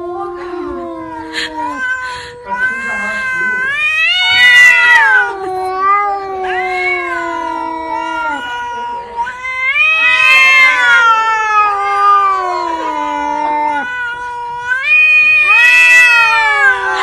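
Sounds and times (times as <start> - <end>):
cat yowling: 0.0 - 17.0.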